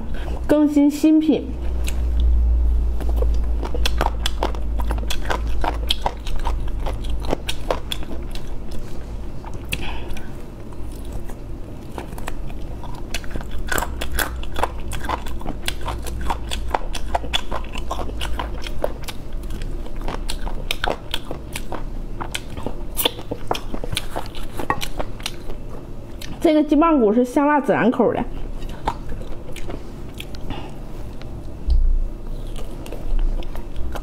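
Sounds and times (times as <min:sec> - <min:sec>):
biting and chewing meat: 0:03.0 - 0:26.4, 0:28.4 - 0:34.0.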